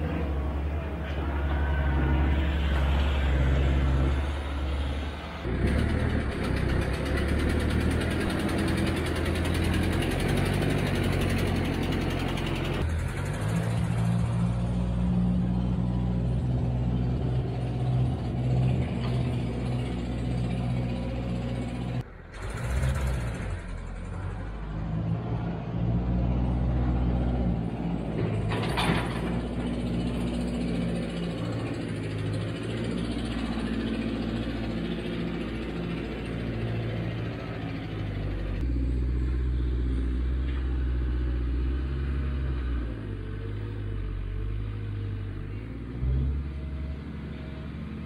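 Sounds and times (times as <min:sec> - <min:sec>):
heavy engines running under load: 0:00.0 - 0:48.0.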